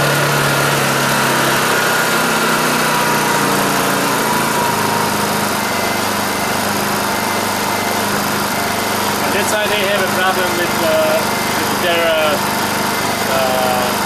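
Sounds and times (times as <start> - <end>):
generator engine hum: 0.0 - 14.0.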